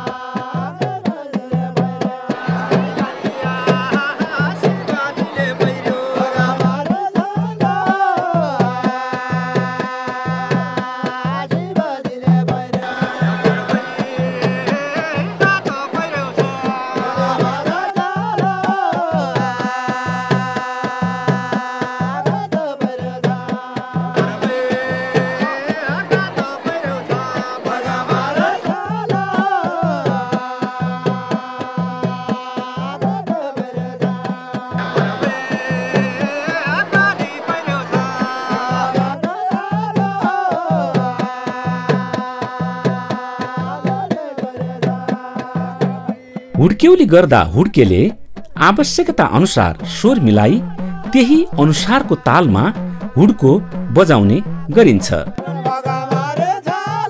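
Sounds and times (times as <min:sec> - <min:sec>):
hand drums beaten fast: 0:00.0 - 0:57.0
voices singing: 0:00.0 - 0:57.0.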